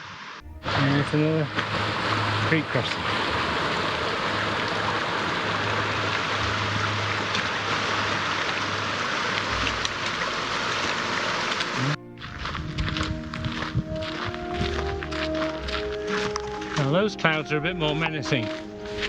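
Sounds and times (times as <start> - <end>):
creek rushing over rocks: 0.6 - 19.0.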